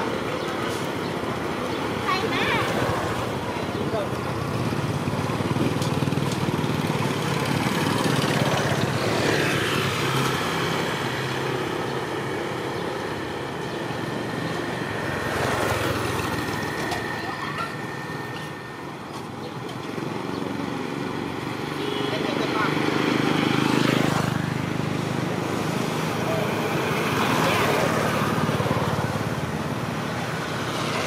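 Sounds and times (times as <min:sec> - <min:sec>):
motorbike passing: 0:00.0 - 0:31.0
small motorbike engines running: 0:00.0 - 0:31.0.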